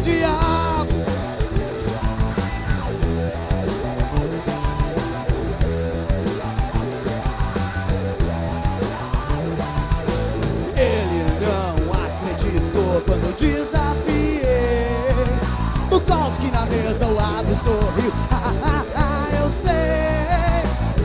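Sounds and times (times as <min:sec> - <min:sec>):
bass guitar: 0:00.0 - 0:21.0
drum kit beat: 0:00.0 - 0:21.0
electric guitars: 0:00.0 - 0:21.0.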